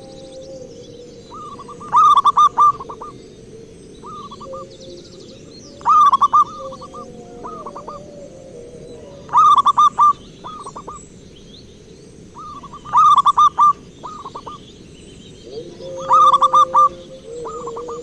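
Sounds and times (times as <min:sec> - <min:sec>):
dove cooing: 0:00.0 - 0:11.0, 0:12.4 - 0:14.6, 0:15.4 - 0:18.0.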